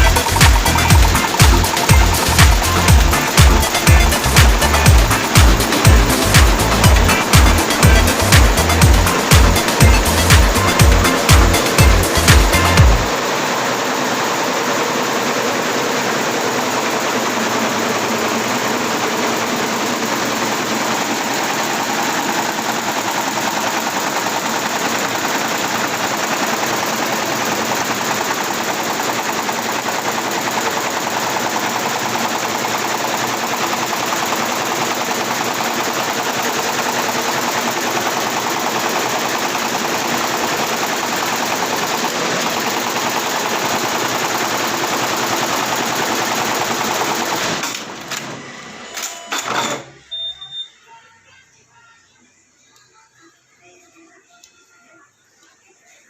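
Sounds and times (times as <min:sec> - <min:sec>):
embroidery machine stitching: 0:00.0 - 0:50.0.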